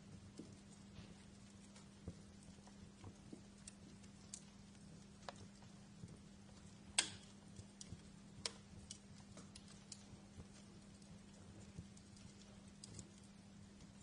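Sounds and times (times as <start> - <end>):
faint low hum: 0.0 - 14.0
wood fire crackling: 0.0 - 14.0.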